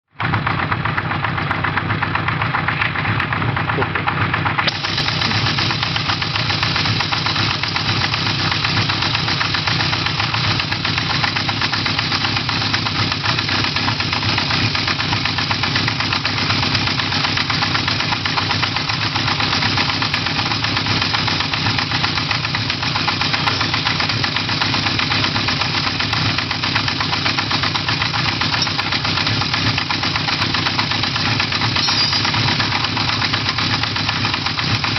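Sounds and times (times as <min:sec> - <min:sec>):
motorcycle engine running: 0:00.0 - 0:34.9
abnormal engine noise: 0:00.1 - 0:34.9.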